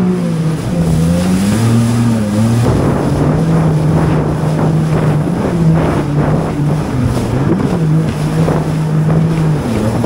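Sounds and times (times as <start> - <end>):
jet ski engine running: 0.0 - 10.0
wind buffeting microphone: 0.0 - 10.0.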